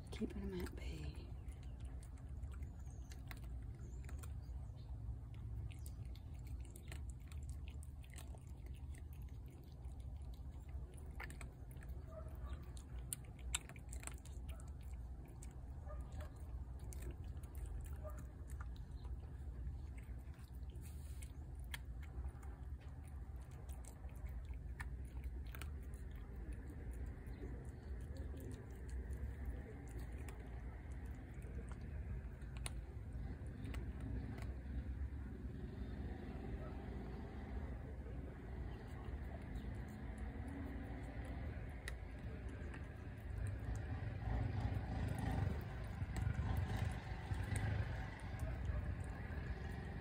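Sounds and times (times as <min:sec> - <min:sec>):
cat chewing food: 0:00.0 - 0:50.0.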